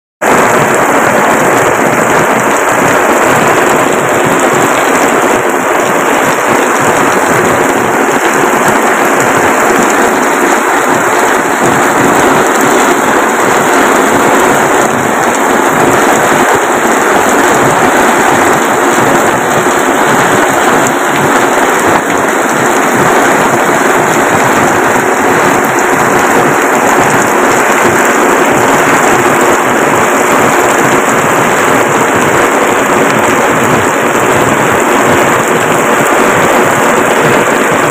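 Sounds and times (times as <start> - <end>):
heavy rain on road: 0.2 - 37.9.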